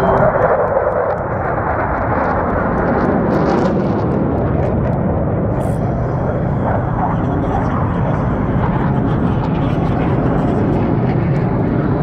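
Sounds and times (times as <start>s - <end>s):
jet roar overhead: 0.0s - 12.0s.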